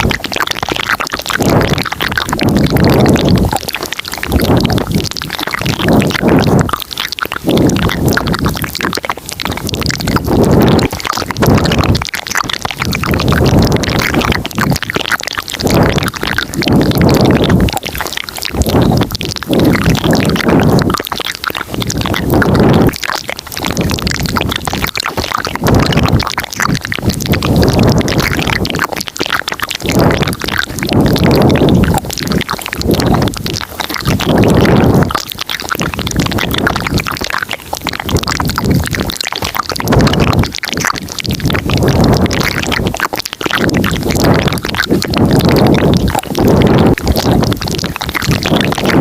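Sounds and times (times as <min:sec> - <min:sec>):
close mouth sounds: 0:00.0 - 0:49.0.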